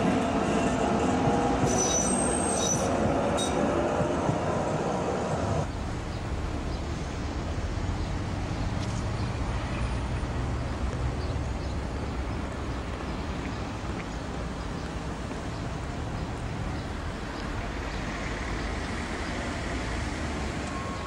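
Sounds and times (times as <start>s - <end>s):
distant city traffic rumble: 0.0s - 21.0s.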